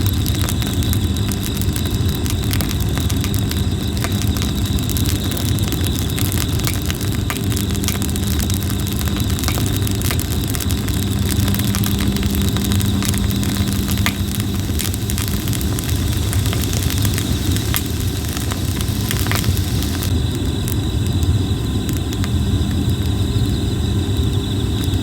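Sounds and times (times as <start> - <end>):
fire low rumble: 0.0 - 25.0
firewood crackling and popping: 0.0 - 25.0.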